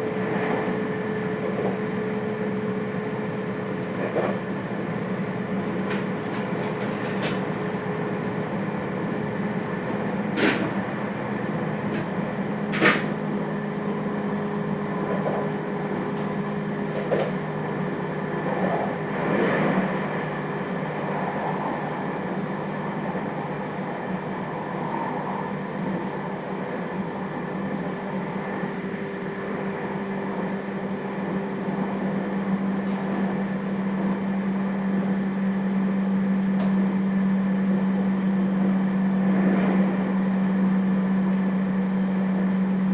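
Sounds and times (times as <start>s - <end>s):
train electrical hum: 0.0s - 42.9s.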